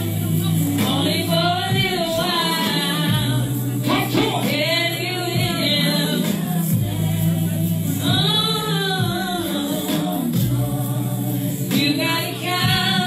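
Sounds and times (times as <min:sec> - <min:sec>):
karaoke backing track: 0:00.0 - 0:13.0
woman singing a slow ballad: 0:00.0 - 0:13.0.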